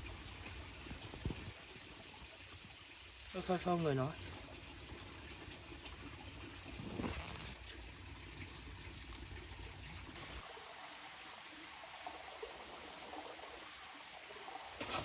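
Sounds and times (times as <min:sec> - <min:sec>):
stream trickling: 0:00.0 - 0:15.0.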